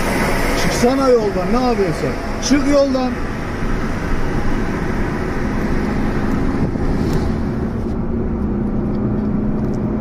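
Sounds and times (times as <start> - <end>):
car engine humming: 0.0 - 10.0
road noise inside car: 0.0 - 10.0.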